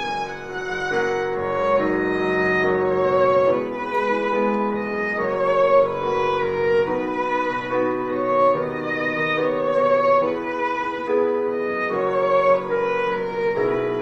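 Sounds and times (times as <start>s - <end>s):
cello accompaniment: 0.0s - 14.0s
piano accompaniment: 0.0s - 14.0s
violin melody with vibrato: 0.0s - 14.0s.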